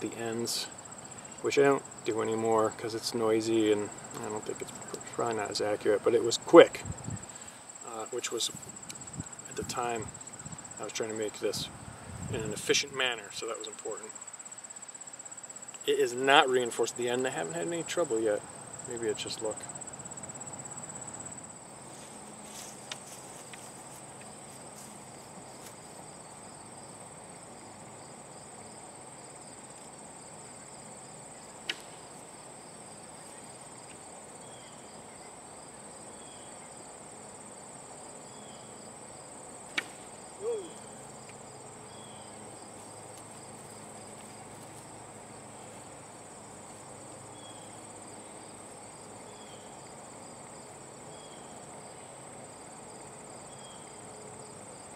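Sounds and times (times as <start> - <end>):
crickets and insects chorus: 0.0 - 54.9.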